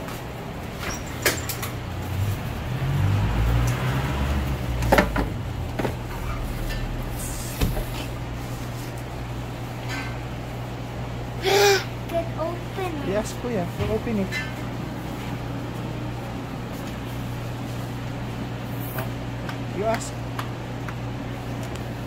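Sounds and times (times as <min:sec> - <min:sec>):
freezer low hum: 0:00.0 - 0:22.0.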